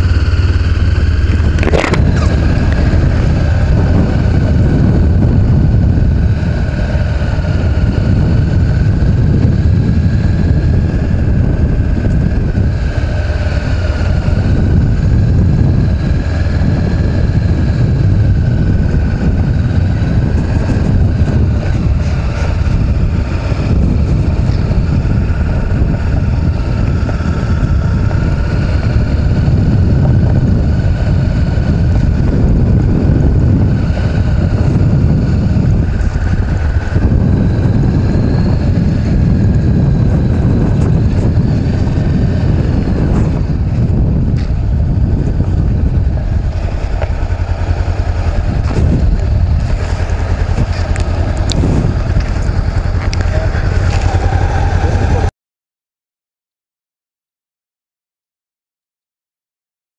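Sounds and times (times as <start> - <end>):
motorcycle engine rumbling: 0.0 - 55.3
wind noise on microphone: 0.0 - 55.3.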